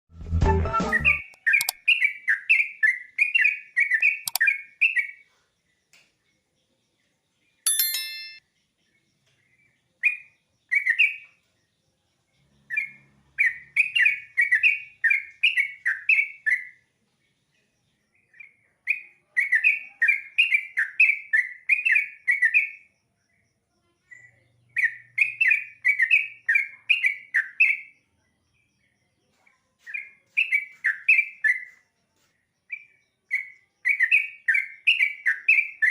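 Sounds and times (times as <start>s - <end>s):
bird chirping: 0.8s - 35.9s.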